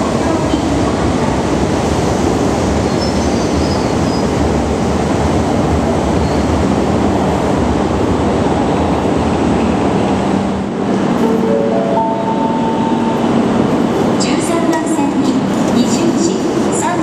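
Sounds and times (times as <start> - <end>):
train rushing past platform: 0.0 - 17.0.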